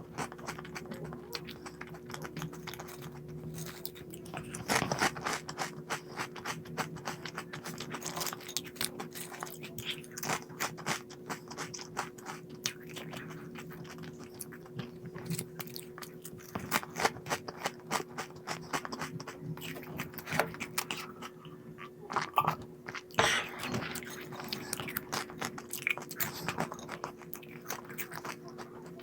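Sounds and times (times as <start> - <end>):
crunchy snack chewing: 0.0 - 29.0
faint steady hum: 0.0 - 29.0.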